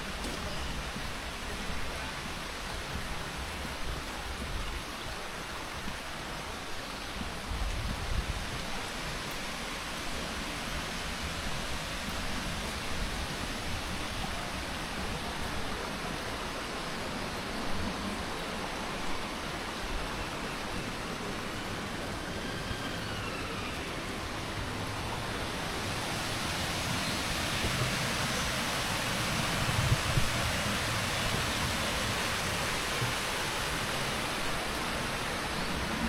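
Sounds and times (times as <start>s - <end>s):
stream water rushing: 0.0s - 36.0s.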